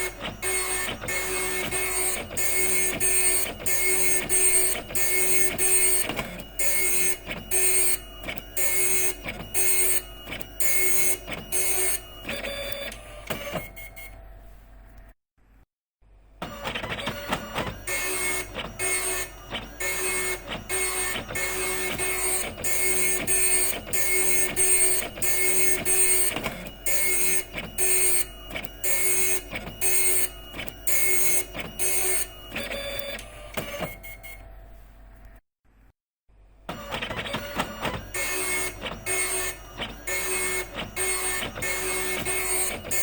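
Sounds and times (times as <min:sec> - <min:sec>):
dot matrix printer printing: 0:00.0 - 0:14.4, 0:16.4 - 0:34.7, 0:36.7 - 0:43.0.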